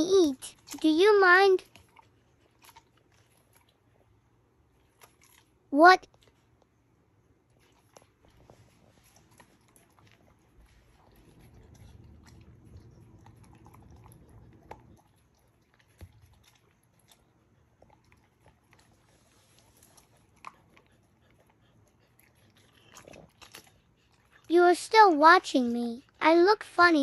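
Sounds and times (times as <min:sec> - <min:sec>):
dog chewing and smacking: 0:00.0 - 0:27.0.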